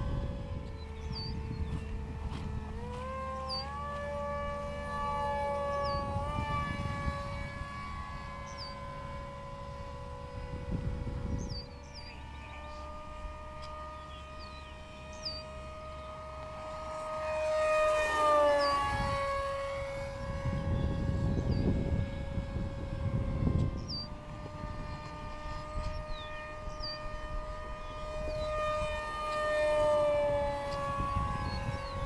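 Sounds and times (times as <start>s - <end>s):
model plane motor whining: 0.0s - 32.0s
wind rumbling on microphone: 0.0s - 32.0s
birds chirping: 0.2s - 22.6s, 23.3s - 32.0s.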